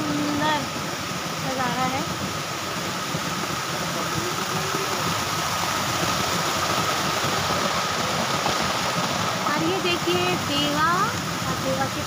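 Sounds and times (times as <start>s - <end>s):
fountain water pouring into pool: 0.0s - 12.0s.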